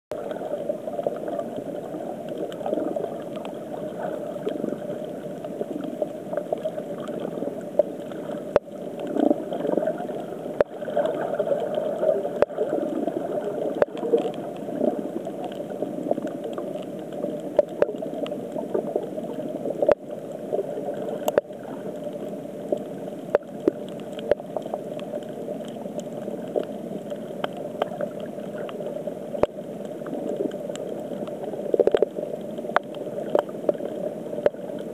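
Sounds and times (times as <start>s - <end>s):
underwater rushing water: 0.1s - 34.9s.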